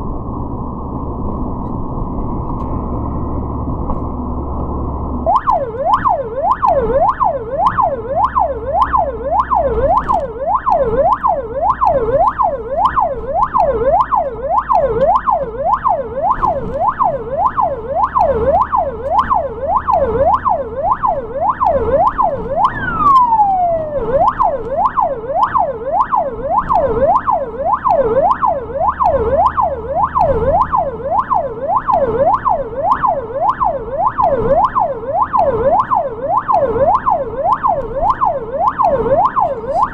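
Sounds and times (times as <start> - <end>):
low vehicle rumble: 0.0 - 39.9
ambulance siren wailing: 5.0 - 39.9.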